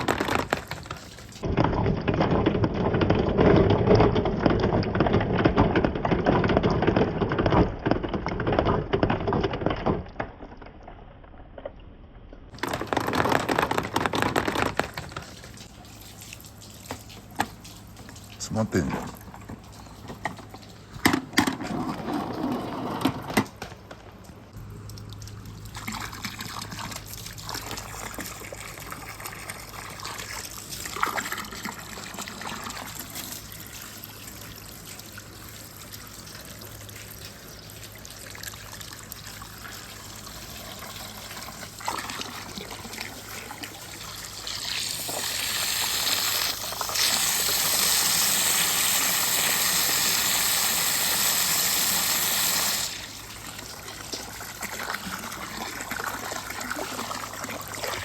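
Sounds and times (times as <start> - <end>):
water trickling down marble run: 0.0 - 58.0.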